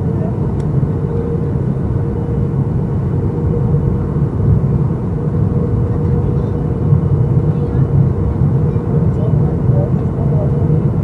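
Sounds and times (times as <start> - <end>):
jet engines droning: 0.0 - 11.0.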